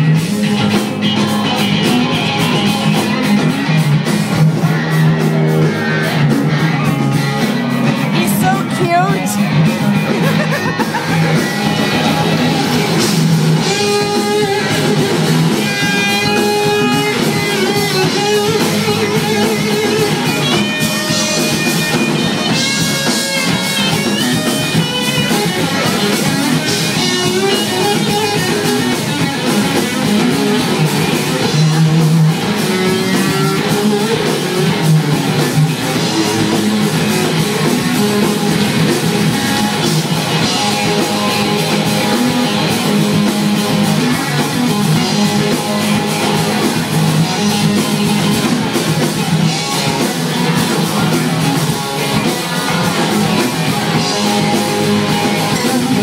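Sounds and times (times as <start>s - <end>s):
electric guitar lead: 0.0s - 56.0s
live rock band playing: 0.0s - 56.0s.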